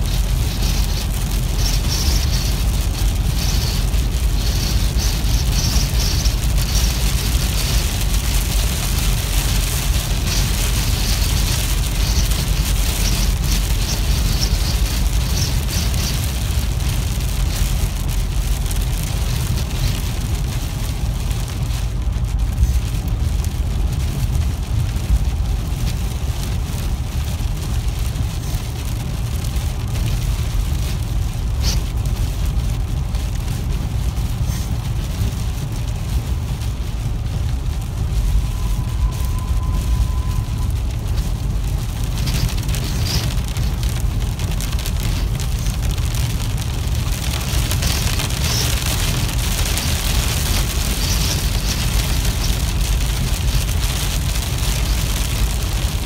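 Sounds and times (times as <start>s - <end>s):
rain hitting car windshield: 0.0s - 56.0s
road and tyre rumble: 0.0s - 56.0s.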